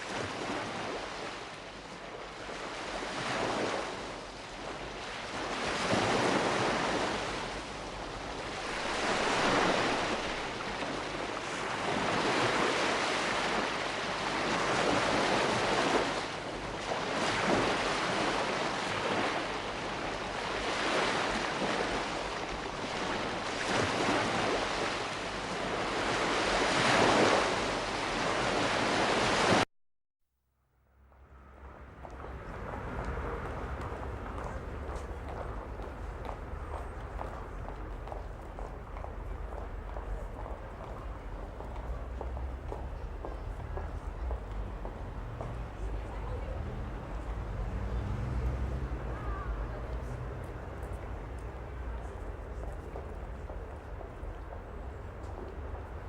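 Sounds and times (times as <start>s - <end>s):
waves rushing and washing back: 0.0s - 29.6s, 31.1s - 56.0s.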